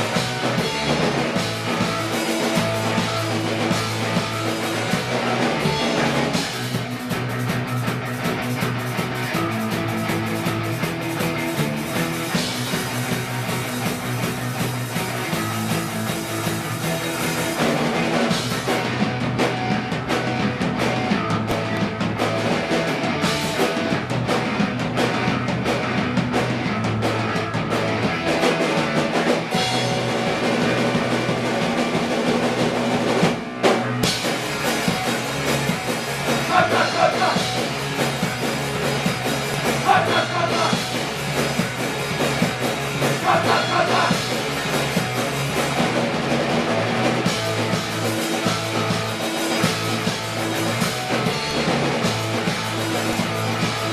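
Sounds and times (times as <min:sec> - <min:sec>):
rock music with drums and guitar: 0:00.0 - 0:53.9.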